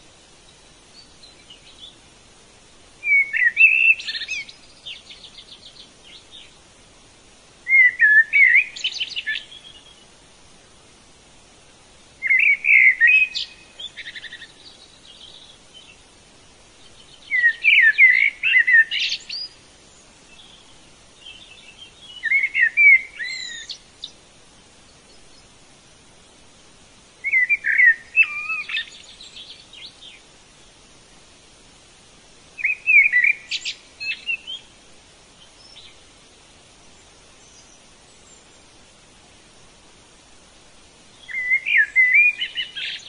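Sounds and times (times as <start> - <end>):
songbird chirps and trills: 0.0 - 43.0.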